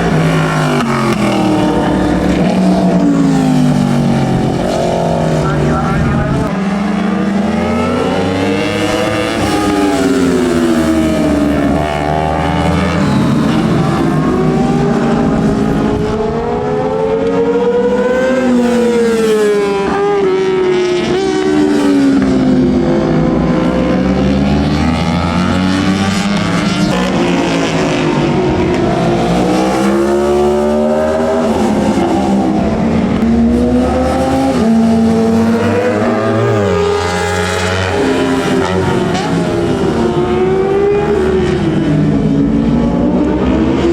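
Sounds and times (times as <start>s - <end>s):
racing motorcycle engines: 0.0s - 43.9s.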